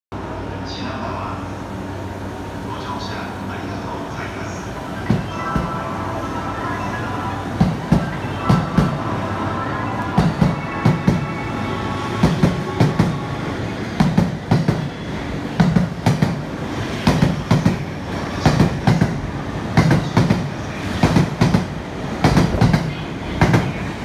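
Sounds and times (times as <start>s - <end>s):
train rolling rumble: 0.2s - 24.0s.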